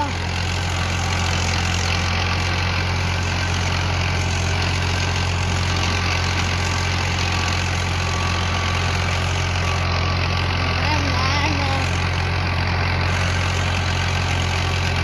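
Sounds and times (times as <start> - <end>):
rotary tiller churning soil: 0.0 - 15.0
tractor diesel engine drone: 0.0 - 15.0.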